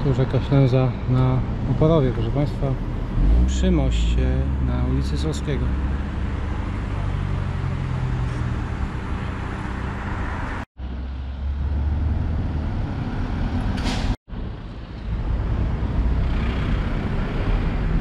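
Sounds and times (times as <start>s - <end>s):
tyre and road noise: 0.0s - 18.0s
vehicle engines rumbling: 0.0s - 18.0s.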